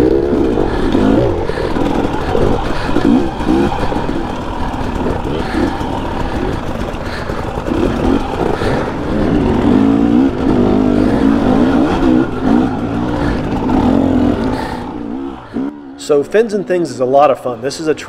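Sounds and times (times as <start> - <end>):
dirt bike engine revving: 0.0 - 17.7.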